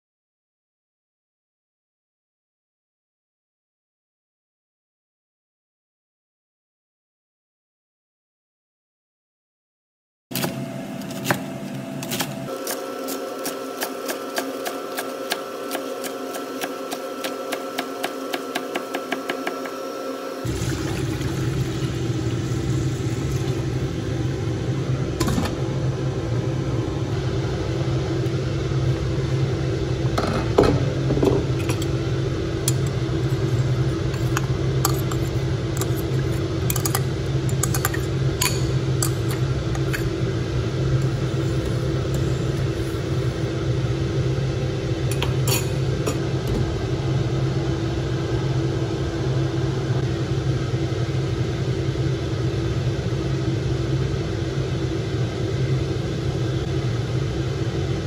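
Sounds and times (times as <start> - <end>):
low mechanical hum: 10.3 - 58.0.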